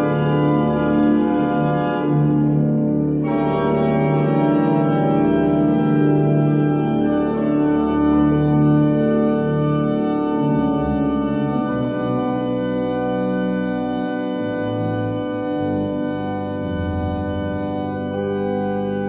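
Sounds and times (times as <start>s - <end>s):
organ playing sustained chords: 0.0s - 19.0s.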